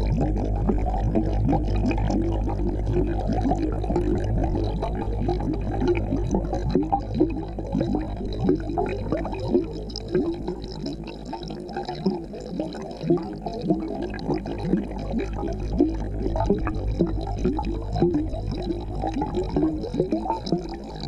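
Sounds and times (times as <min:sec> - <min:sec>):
low steady hum: 0:00.0 - 0:21.0
underwater bubbling and gurgling: 0:00.0 - 0:21.0.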